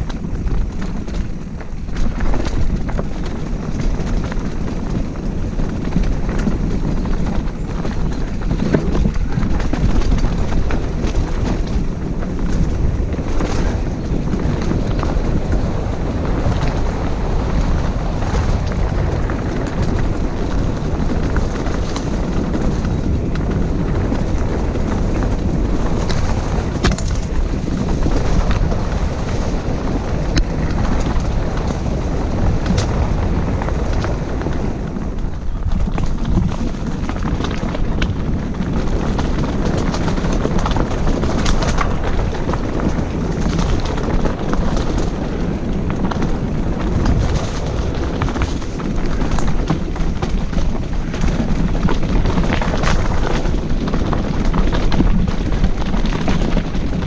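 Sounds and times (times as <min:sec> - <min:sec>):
bike rattling: 0:00.0 - 0:57.0
tyres crunching over stones: 0:00.0 - 0:57.0
wind buffeting microphone: 0:00.0 - 0:57.0.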